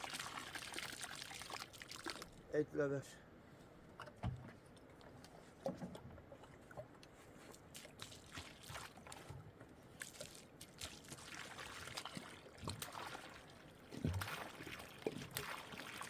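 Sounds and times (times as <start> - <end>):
water sloshing and trickling: 0.0 - 2.7, 3.5 - 16.0.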